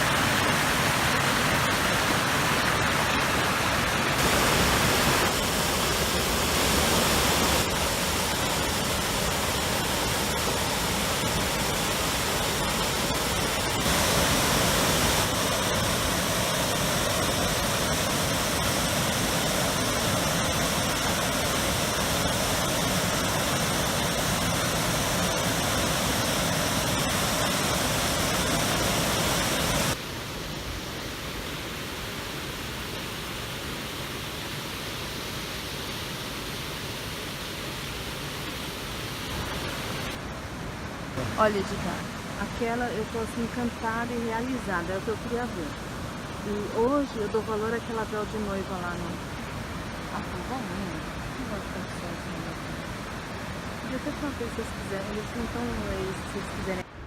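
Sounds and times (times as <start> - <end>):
waterfall rushing: 0.0 - 35.4, 37.6 - 57.0.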